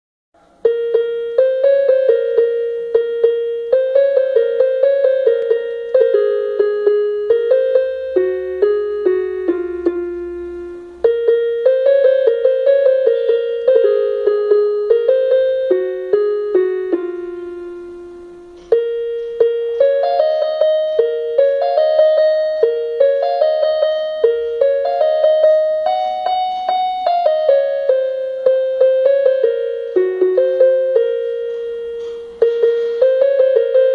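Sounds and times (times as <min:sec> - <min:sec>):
electronic keyboard melody: 0:00.4 - 0:33.9.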